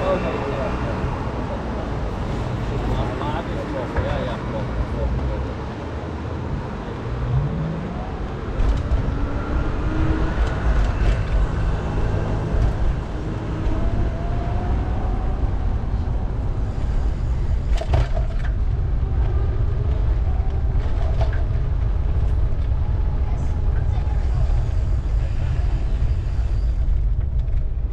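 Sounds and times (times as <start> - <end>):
traffic rumble: 0.0 - 27.9.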